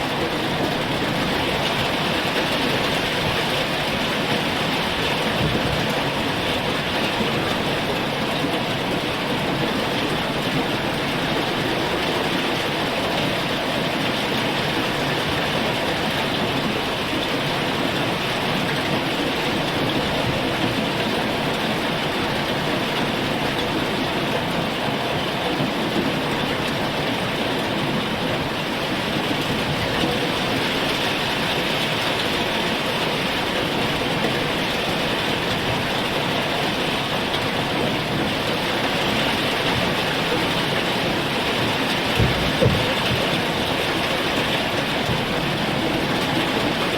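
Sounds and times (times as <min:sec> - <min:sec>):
heavy rain downpour: 0:00.0 - 0:46.9.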